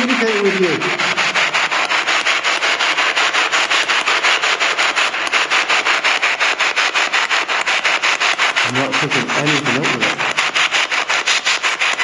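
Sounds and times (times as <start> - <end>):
chopped radio static hiss: 0.0 - 6.2, 7.0 - 12.0.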